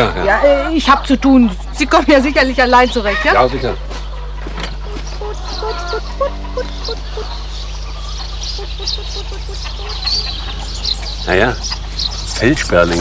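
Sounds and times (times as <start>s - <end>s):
hens clucking: 0.0s - 13.0s
small birds chirping: 0.0s - 13.0s.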